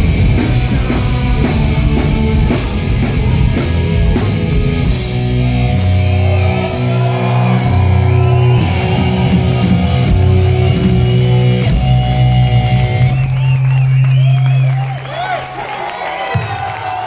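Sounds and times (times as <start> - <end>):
live rock band playing: 0.0 - 14.8.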